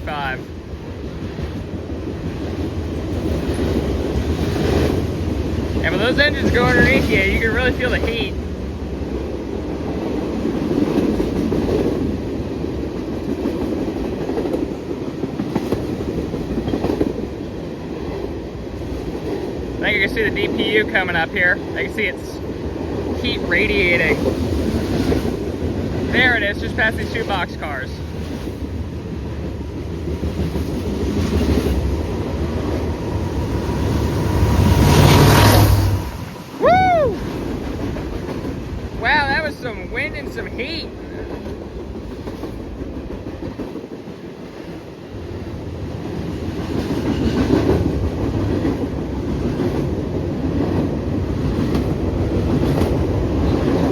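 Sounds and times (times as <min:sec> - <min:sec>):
freight train wheels rumbling on rail: 0:00.0 - 0:53.9.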